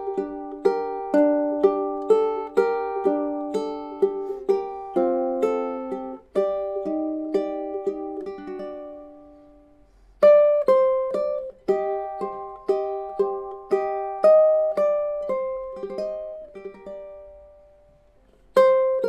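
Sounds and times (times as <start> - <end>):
plucked string melody: 0.0 - 19.0.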